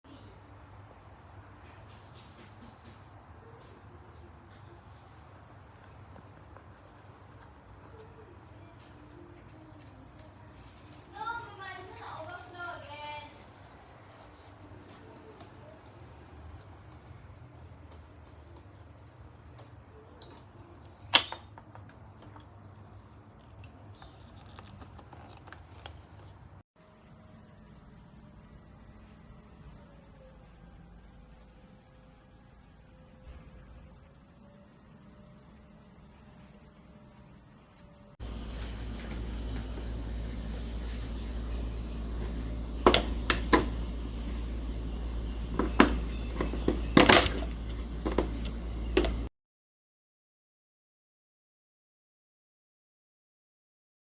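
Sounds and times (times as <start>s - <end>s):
steady low hum: 0.0s - 49.3s.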